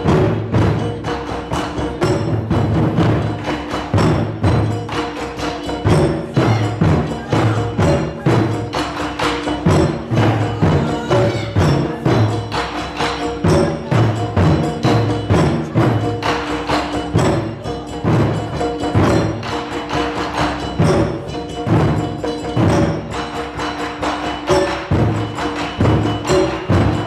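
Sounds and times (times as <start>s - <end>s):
taiko drumming: 0.0s - 27.0s.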